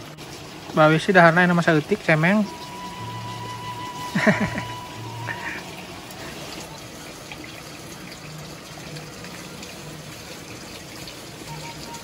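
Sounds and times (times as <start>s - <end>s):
running water hiss: 0.0s - 12.0s.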